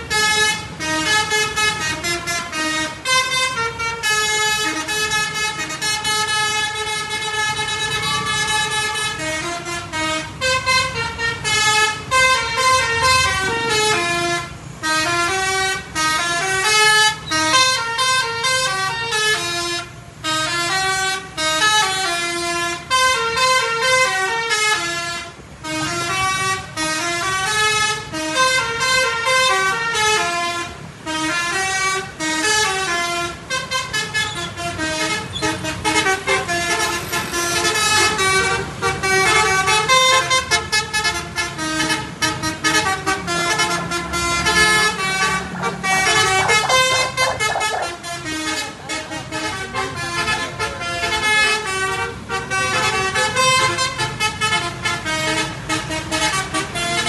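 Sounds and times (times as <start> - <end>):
bus horns playing melody: 0.0 - 57.0
low hum of engines and traffic: 0.0 - 57.0.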